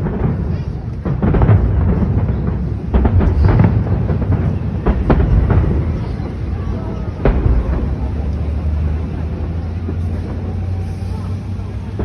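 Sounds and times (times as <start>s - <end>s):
fireworks booming: 0.0s - 12.0s
low rumble of explosions: 0.0s - 12.0s.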